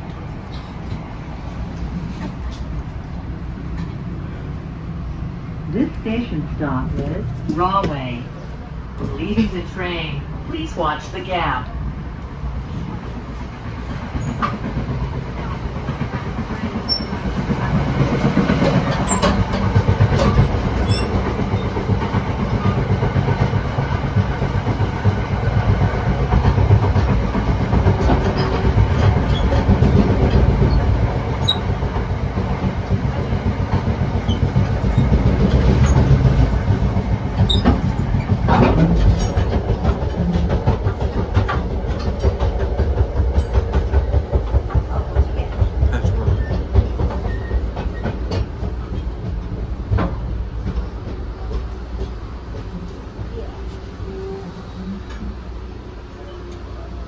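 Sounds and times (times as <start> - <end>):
clicks and rattles of train car: 0.0 - 4.5, 5.7 - 56.9
train wheels rumbling on rail: 0.0 - 57.0.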